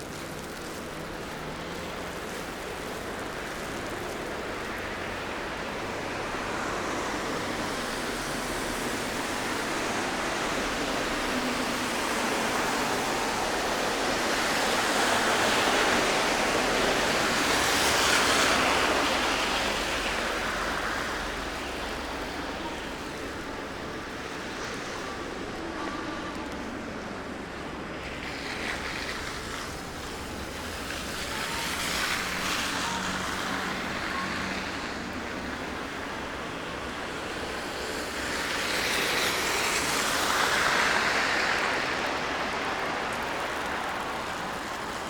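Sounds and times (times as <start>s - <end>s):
traffic tyre hiss: 0.0s - 45.0s.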